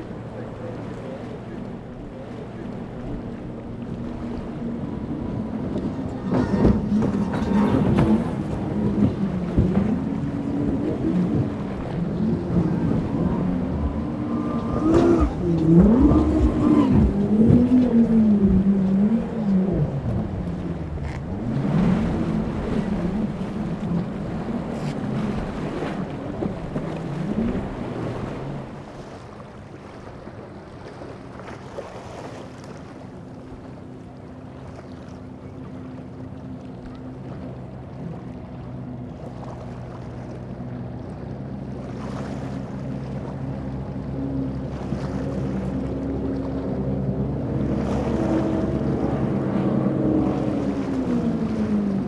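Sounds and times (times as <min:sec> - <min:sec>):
outboard engines running hard: 0:00.0 - 0:52.0.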